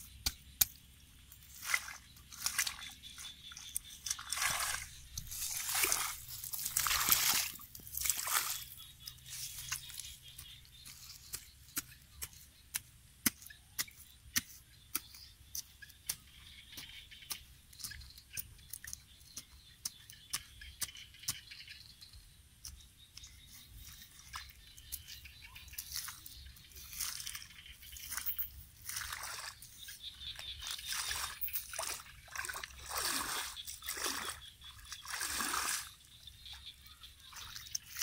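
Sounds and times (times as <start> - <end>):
high chirping: 0.0 - 12.8, 13.4 - 38.0.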